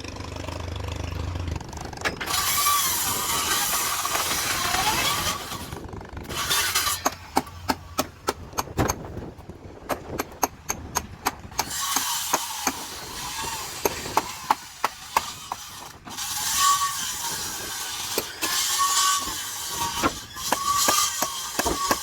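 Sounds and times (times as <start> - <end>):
woodworking tool cutting wood: 1.6 - 9.1, 9.9 - 22.0.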